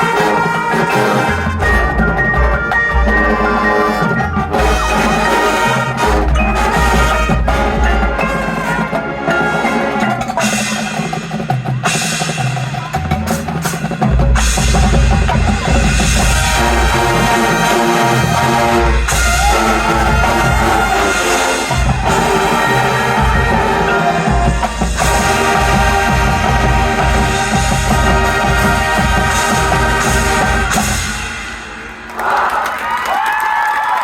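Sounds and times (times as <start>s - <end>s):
marching band playing: 0.0s - 32.7s.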